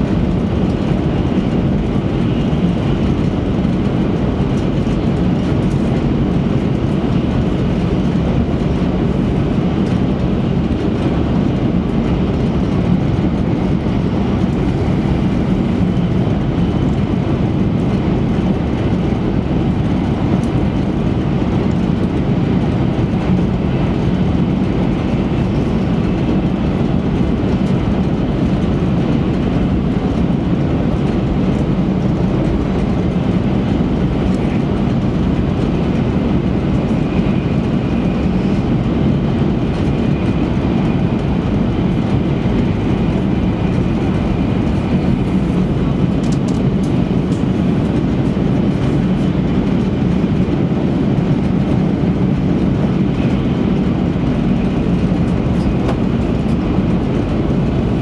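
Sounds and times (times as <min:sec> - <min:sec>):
train wheels and air rumble: 0:00.0 - 0:58.0.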